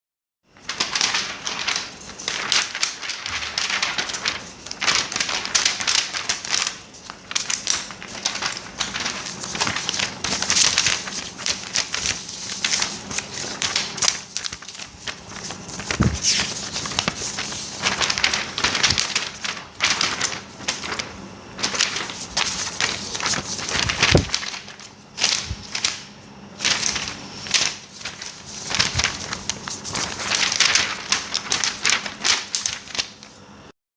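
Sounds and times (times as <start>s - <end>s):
paper rustling and crinkling: 0.6s - 33.6s.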